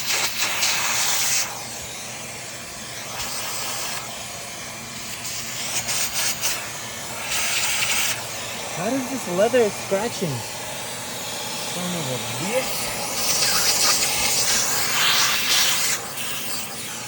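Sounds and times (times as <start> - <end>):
rushing hiss of air: 0.0 - 17.0.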